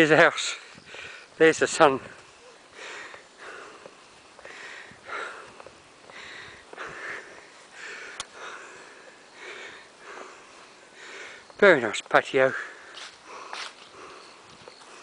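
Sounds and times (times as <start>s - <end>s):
man breathing heavily and wheezily: 0.5s - 1.4s, 2.2s - 11.6s, 12.5s - 15.0s.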